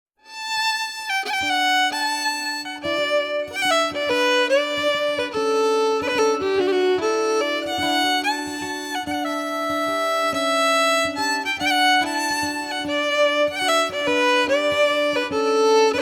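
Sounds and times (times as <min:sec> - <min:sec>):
fiddle tune over drone: 0:00.3 - 0:16.0.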